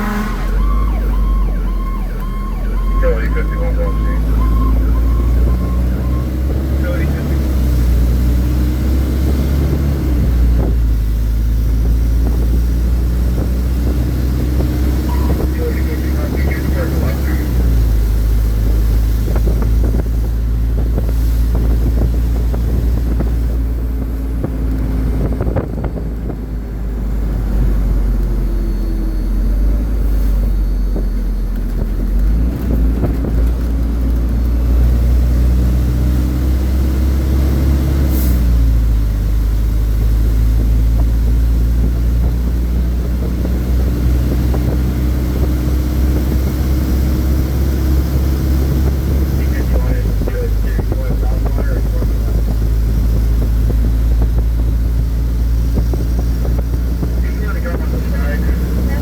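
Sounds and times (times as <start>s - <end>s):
diesel engine droning: 0.0s - 59.0s
road and wind noise: 0.0s - 59.0s.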